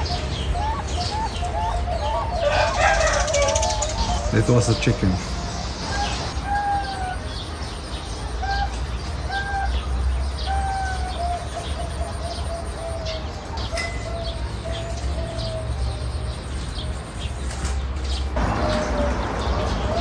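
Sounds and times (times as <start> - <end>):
bird whistling notes: 0.0 - 20.0
faint high bird chirps: 0.0 - 20.0.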